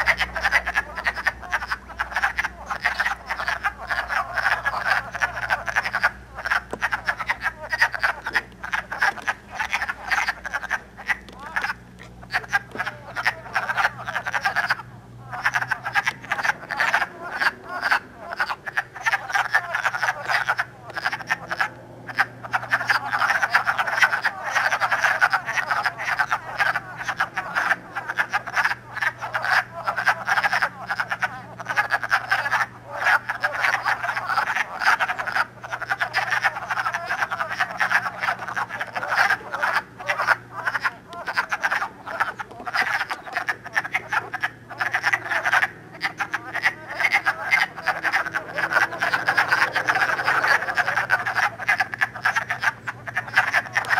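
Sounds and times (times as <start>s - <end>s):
frogs chorus calling: 0.0s - 53.9s.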